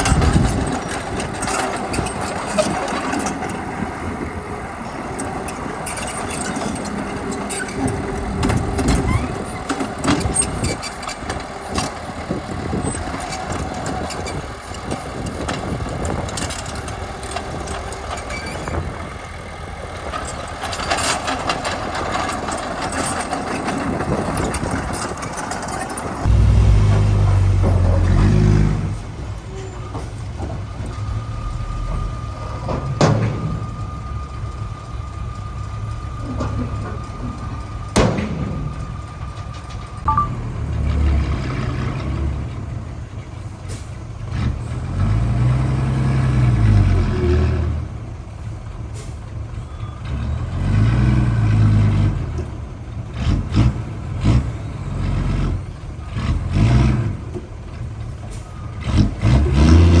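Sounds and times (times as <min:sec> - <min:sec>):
diesel engine running and revving: 0:00.0 - 1:00.0.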